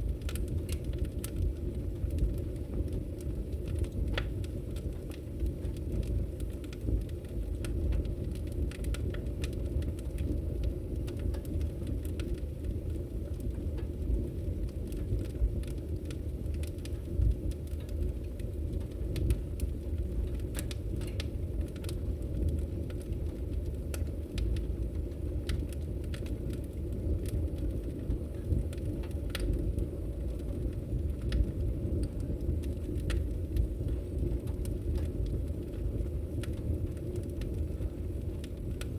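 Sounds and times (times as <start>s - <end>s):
fire crackling and popping: 0.0s - 38.9s
low fire rumble: 0.0s - 38.9s.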